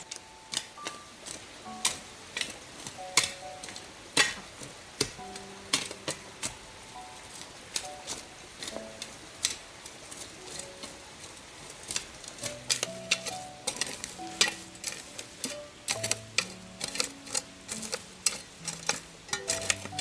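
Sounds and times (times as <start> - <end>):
sharp clicks and light scrapes: 0.0 - 20.0
soft background music: 0.0 - 20.0.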